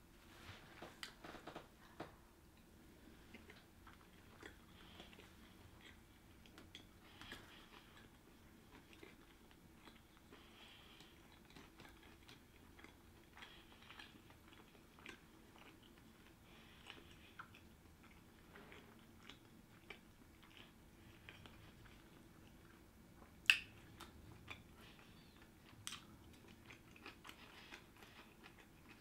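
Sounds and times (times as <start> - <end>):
wet chewing mouth clicks: 2.6 - 29.0.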